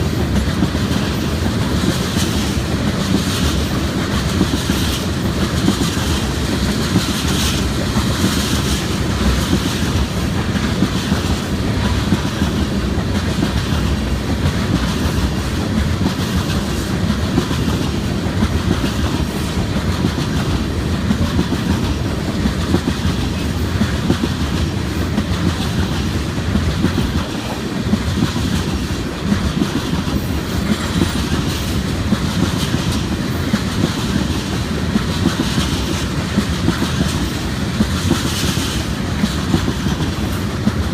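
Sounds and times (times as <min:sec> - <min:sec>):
freight train rumble: 0:00.0 - 0:40.9
train wheels clickety-clack: 0:00.0 - 0:40.9.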